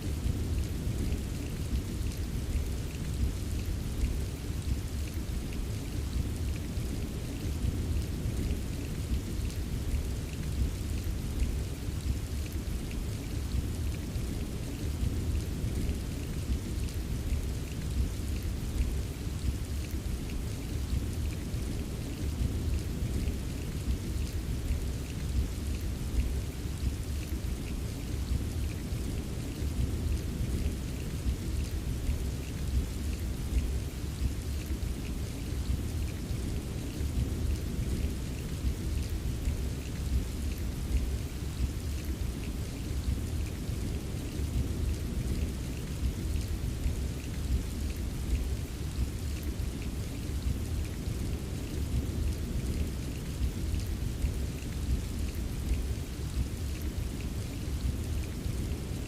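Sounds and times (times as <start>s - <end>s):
faint rain drop ticks: 0.0s - 59.0s
steady rain: 0.0s - 59.0s.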